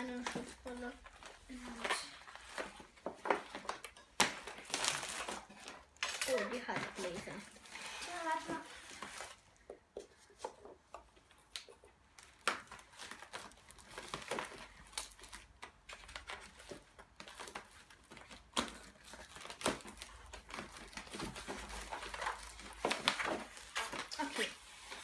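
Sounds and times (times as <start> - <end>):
plastic packaging crinkling: 0.0 - 9.6, 11.5 - 25.0.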